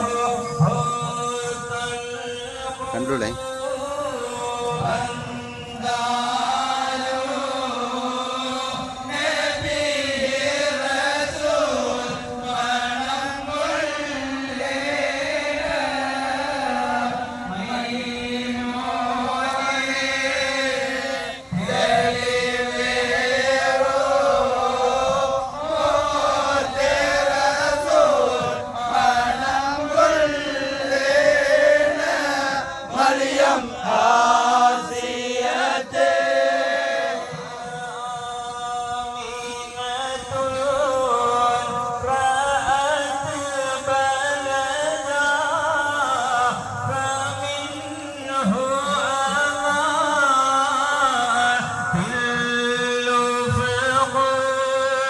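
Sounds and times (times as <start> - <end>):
marchers chanting together: 3.0 - 52.5.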